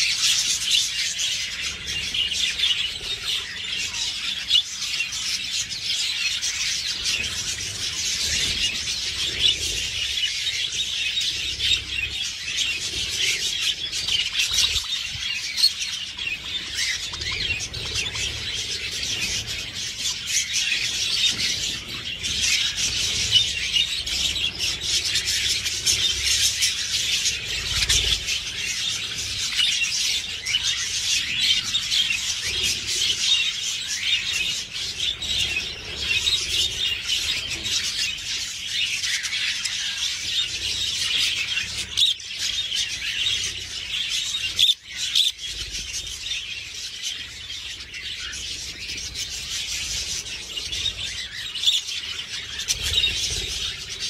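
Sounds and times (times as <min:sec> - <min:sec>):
budgerigars twittering: 0:00.0 - 0:54.0.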